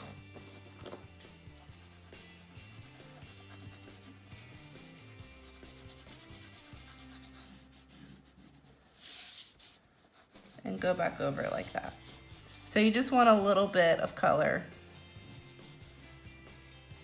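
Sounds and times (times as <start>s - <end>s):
pencil scratching on paper: 1.6s - 13.4s, 14.6s - 17.0s.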